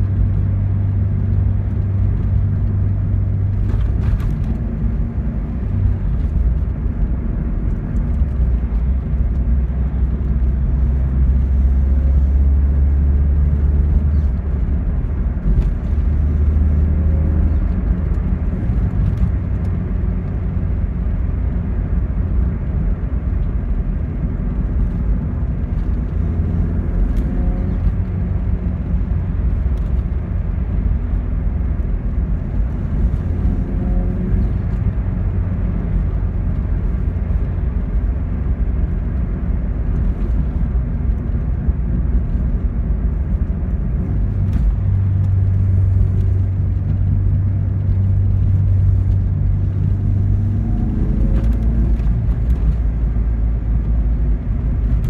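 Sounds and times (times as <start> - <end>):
car engine droning: 0.0 - 55.0
road noise: 0.0 - 55.0.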